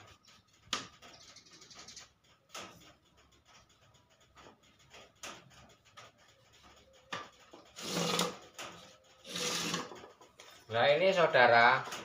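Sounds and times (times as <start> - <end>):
wooden parts clicking and tapping: 0.0 - 12.0.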